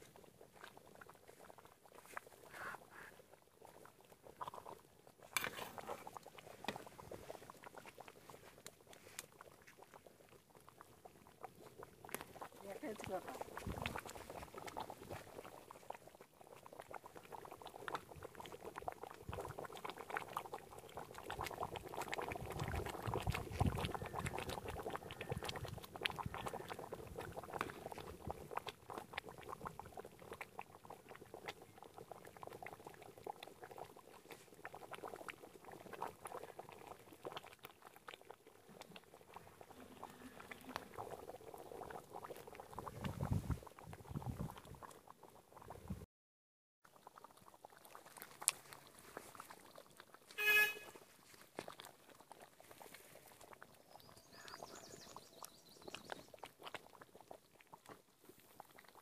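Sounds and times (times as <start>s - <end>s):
gravy bubbling at a boil: 0.0s - 46.1s, 46.8s - 59.0s.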